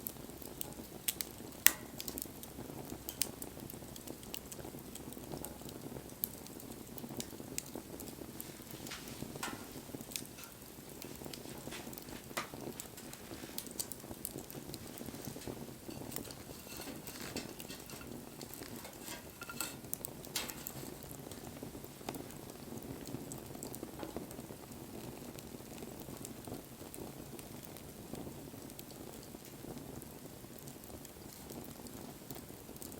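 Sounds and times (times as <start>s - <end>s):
bonfire flames rushing: 0.0s - 32.9s
fire crackles and pops: 0.0s - 32.9s.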